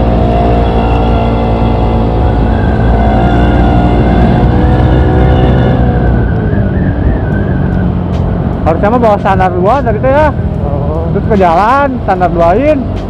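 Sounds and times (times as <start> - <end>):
scooter engine cruising: 0.0 - 13.0.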